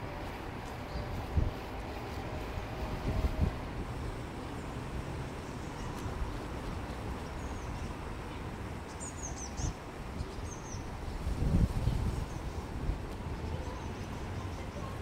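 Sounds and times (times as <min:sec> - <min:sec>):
wind and tyres on road: 0:00.0 - 0:15.0.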